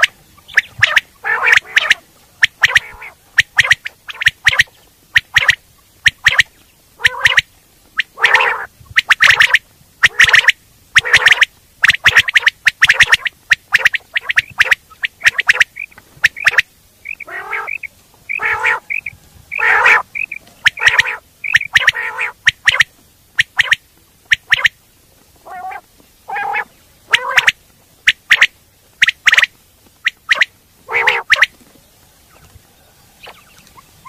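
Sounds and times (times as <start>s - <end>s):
quail calling: 0.0s - 24.8s, 25.4s - 34.0s.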